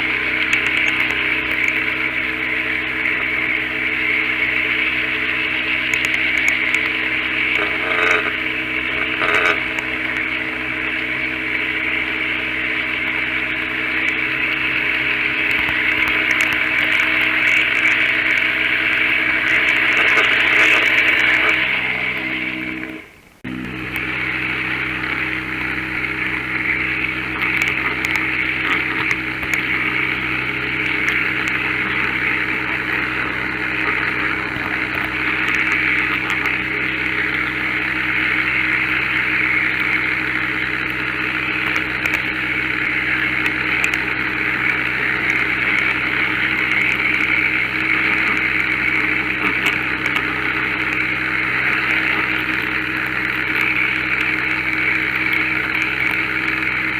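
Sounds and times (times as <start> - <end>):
model train motor whirring: 0.0 - 23.2, 23.8 - 56.9
constant low hum: 0.0 - 56.9.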